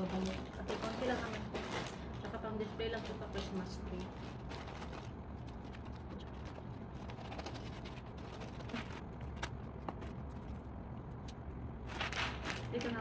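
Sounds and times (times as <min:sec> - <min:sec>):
wrapping paper crinkling: 0:00.0 - 0:10.6, 0:11.8 - 0:13.0
steady low hum: 0:00.0 - 0:13.0.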